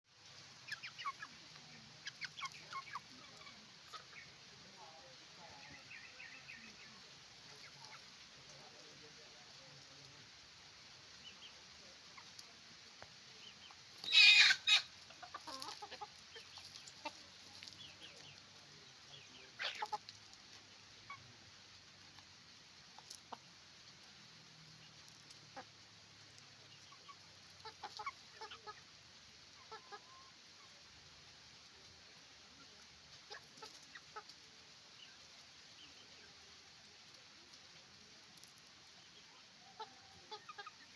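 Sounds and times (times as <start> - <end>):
chickens clucking and calling: 0.2 - 40.9.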